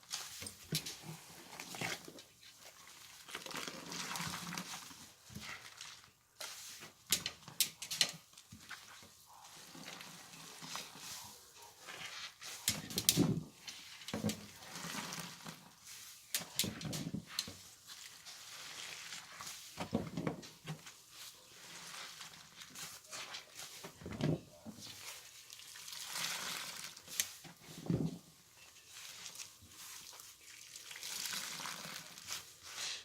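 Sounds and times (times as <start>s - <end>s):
wet sponge squelching: 0.0s - 7.1s, 8.2s - 12.7s, 13.6s - 19.9s, 20.5s - 24.1s, 24.8s - 33.0s
foam crackling and fizzing: 0.0s - 11.2s, 11.9s - 24.1s, 24.8s - 32.8s.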